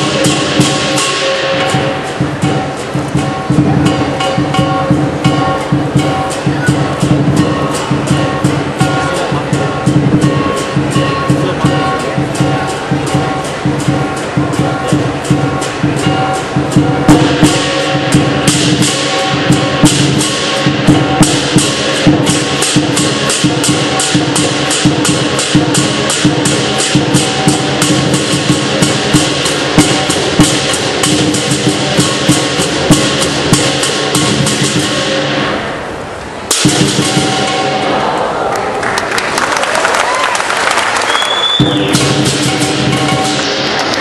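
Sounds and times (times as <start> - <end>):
large drum beating fast rhythm: 0.0 - 38.2, 41.6 - 44.0
cymbals and gong ringing: 0.0 - 38.6, 41.5 - 44.0.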